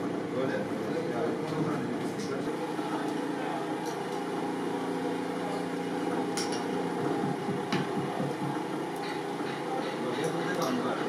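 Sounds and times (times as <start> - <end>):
workshop hum: 0.0 - 11.0.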